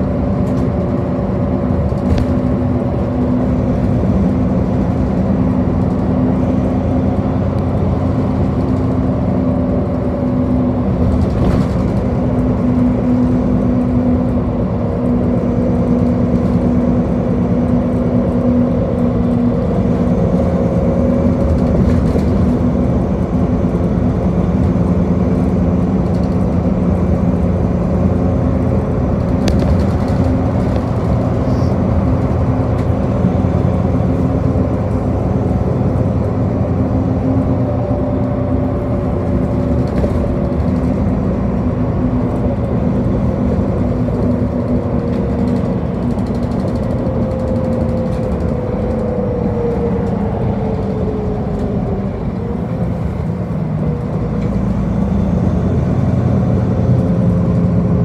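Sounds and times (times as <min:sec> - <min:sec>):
bus engine drone: 0:00.0 - 0:58.0
tyre and road noise: 0:00.0 - 0:58.0.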